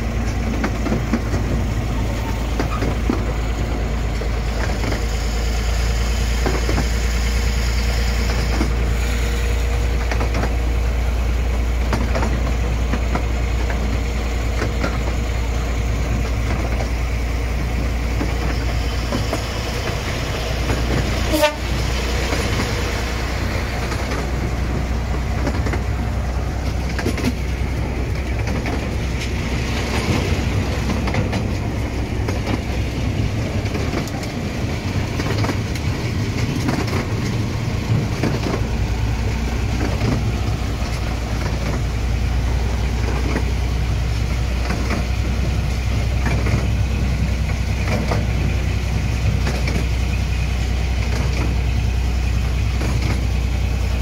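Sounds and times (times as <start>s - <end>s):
train engine and wheels rumbling: 0.0s - 54.0s.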